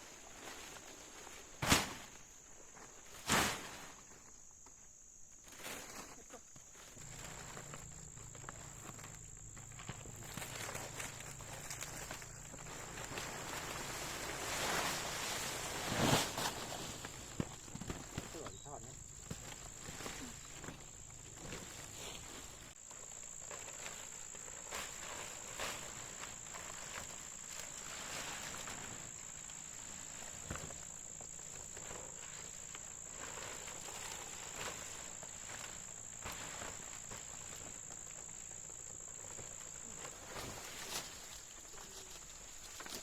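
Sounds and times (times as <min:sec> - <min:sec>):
insects trilling: 0:00.1 - 0:43.0.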